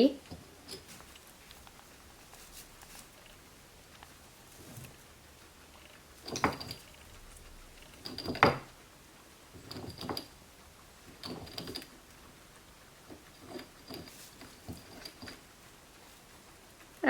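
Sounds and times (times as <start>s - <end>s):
guinea pigs munching hay: 0.0s - 17.0s.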